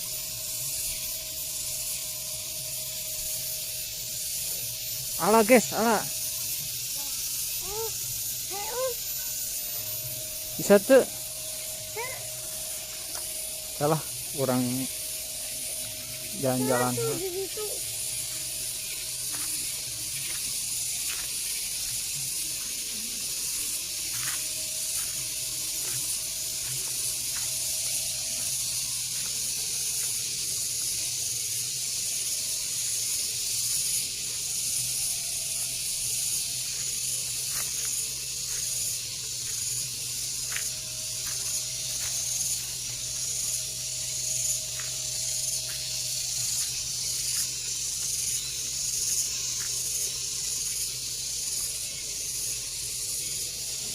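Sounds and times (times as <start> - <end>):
high-pitched hiss: 0.0 - 53.9.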